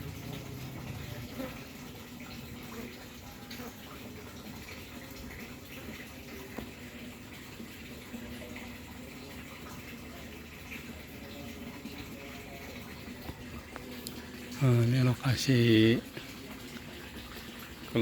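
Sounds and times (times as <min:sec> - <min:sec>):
trickling water: 0:00.0 - 0:18.0.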